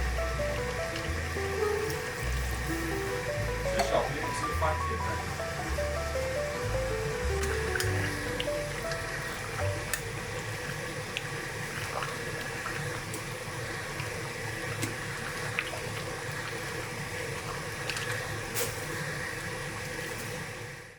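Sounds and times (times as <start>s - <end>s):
stew bubbling in a pot: 0.0s - 20.9s.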